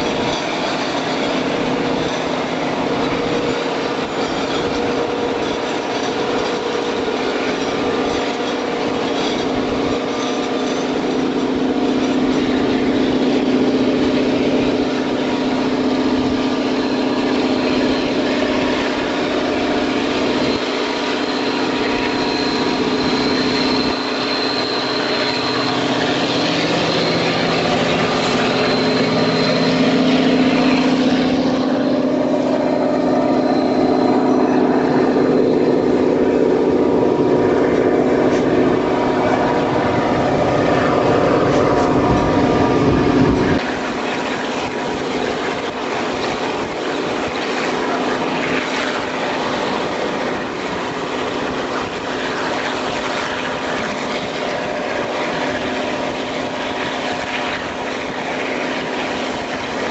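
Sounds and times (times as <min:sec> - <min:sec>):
diesel locomotive engine drone: 0:00.0 - 0:59.9
train wheels on rails: 0:00.0 - 0:59.9.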